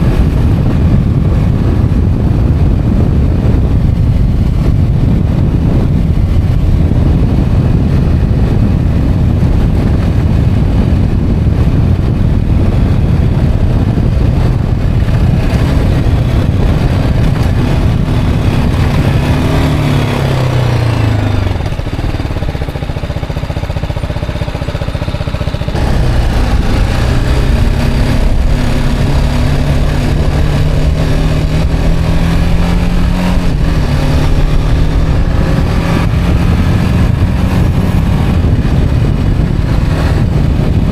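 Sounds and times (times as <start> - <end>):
motorcycle engine: 0.0 - 40.9
wind rush: 0.0 - 40.9.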